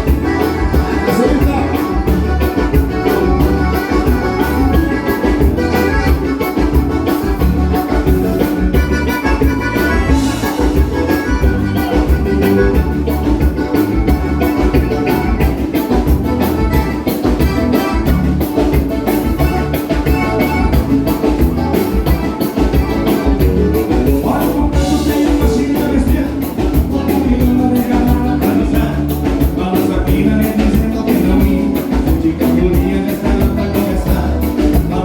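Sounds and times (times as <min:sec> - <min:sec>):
drums keeping fast beat: 0:00.0 - 0:35.0
live band playing dance music: 0:00.0 - 0:35.0.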